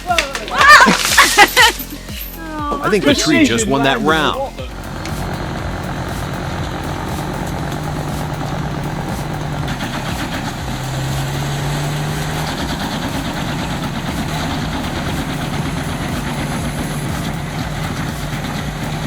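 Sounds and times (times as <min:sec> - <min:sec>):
engine idling: 0:01.4 - 0:19.0.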